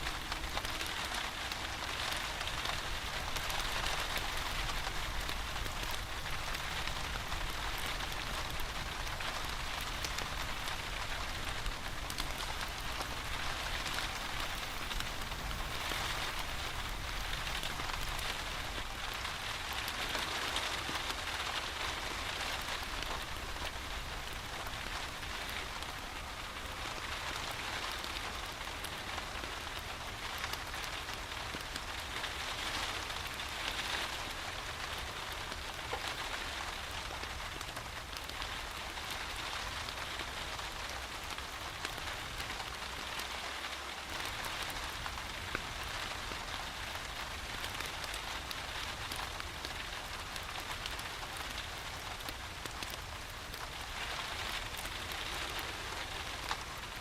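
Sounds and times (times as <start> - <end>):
rain patter: 0.0 - 57.0.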